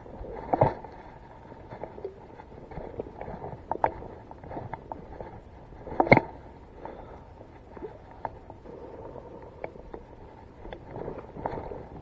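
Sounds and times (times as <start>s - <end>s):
fishing tackle clicks and rustles: 0.0s - 8.6s, 9.4s - 12.0s.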